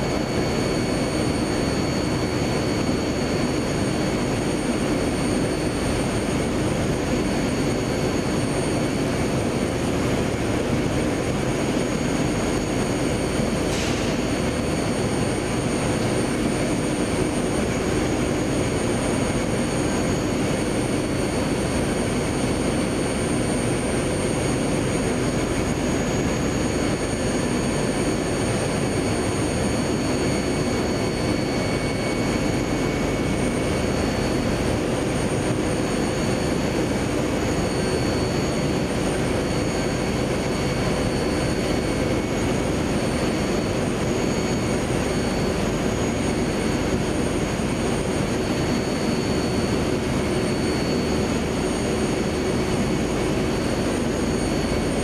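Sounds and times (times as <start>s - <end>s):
high machine whines: 0.0s - 55.0s.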